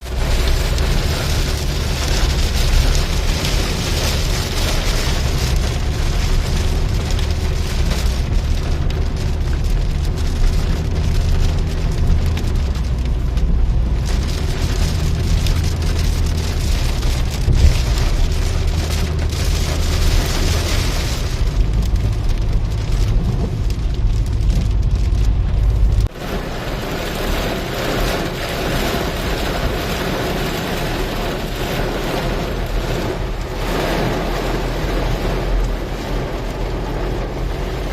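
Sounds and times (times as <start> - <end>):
car driving low rumble: 0.0 - 37.9
heavy rain: 0.0 - 37.9.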